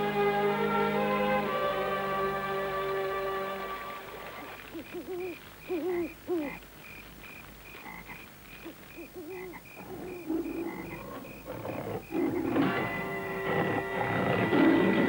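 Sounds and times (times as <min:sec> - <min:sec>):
wavering hooting bird calls: 0:00.9 - 0:15.0.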